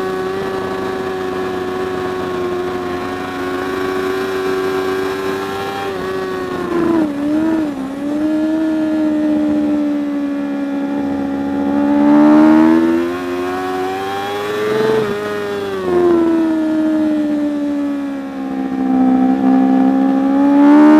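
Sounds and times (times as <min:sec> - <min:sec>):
motorcycle engine high revs: 0:00.0 - 0:20.9.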